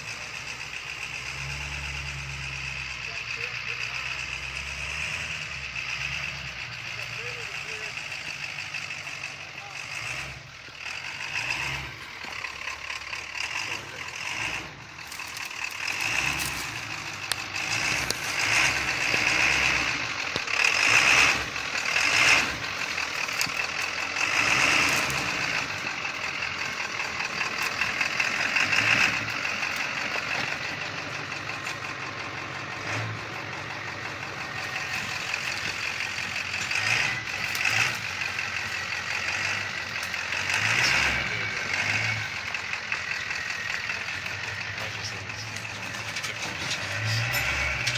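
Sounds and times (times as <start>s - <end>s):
truck engine running slowly: 0.0s - 47.9s
tyres crunching over gravel: 0.0s - 47.9s.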